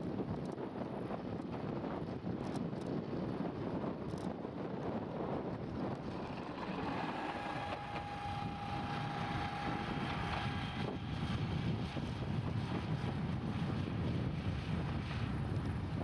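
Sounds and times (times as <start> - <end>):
deep running rumble: 0.0 - 16.0
high whine of rail vehicle: 3.0 - 16.0.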